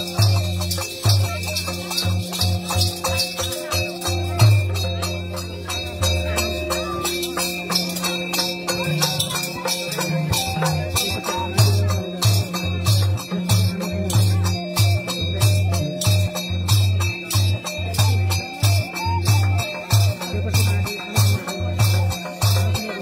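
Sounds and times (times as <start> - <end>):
jingling percussion: 0.0 - 23.0.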